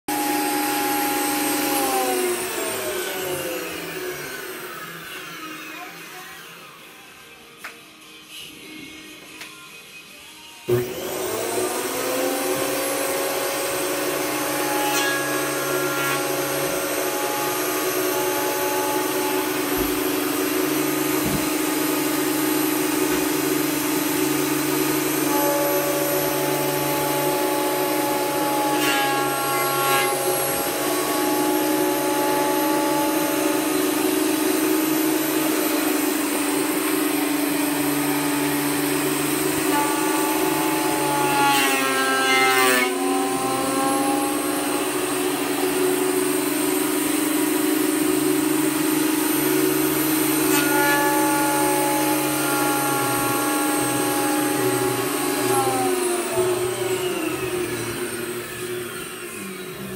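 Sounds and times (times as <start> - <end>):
thickness planer running with high whine: 0.1 - 8.8, 10.7 - 59.9.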